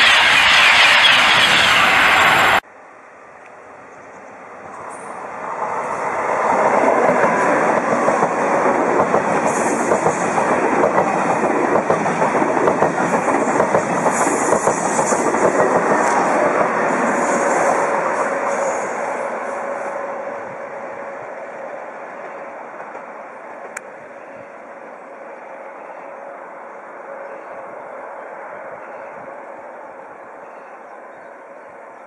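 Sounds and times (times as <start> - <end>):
high-speed train rushing past: 0.0 - 32.0.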